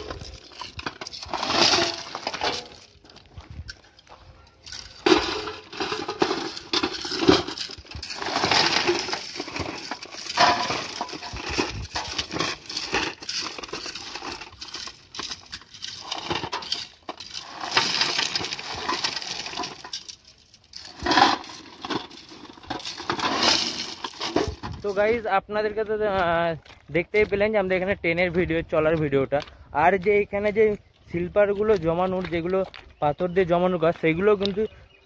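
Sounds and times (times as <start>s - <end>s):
railway ballast stones crunching: 0.0s - 35.0s.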